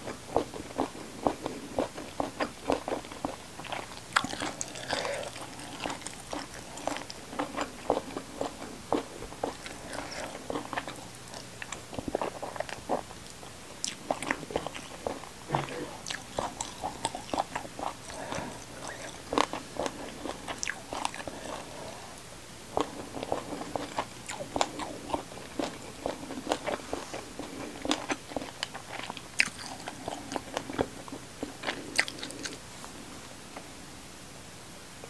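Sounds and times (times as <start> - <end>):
chewing and crunching food: 0.0 - 33.0.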